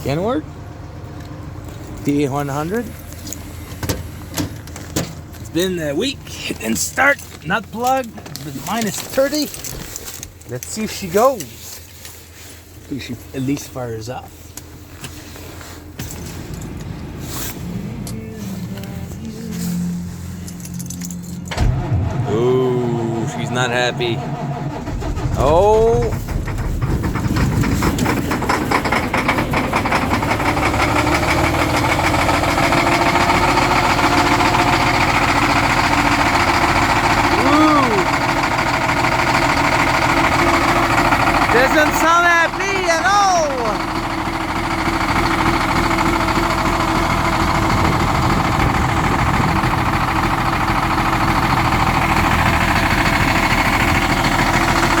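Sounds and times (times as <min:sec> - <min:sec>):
diesel engine running roughly: 0:00.0 - 0:55.0.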